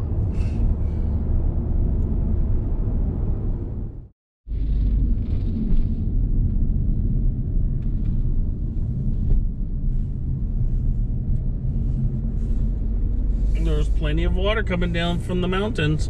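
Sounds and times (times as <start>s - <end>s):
car driving rumble from inside: 0.0s - 16.0s.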